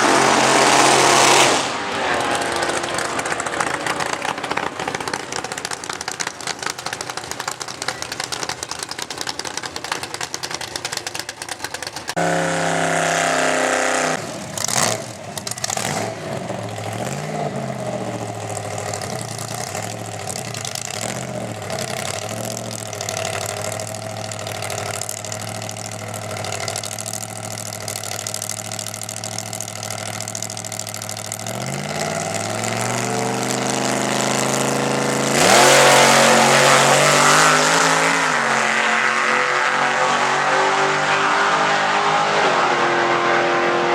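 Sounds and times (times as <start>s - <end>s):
v eight engine running: 0.0s - 43.9s.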